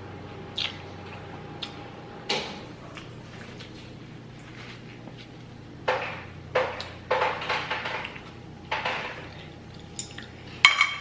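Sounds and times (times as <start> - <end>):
low steady hum: 0.0 - 11.0
sharp eating noises: 0.4 - 10.6.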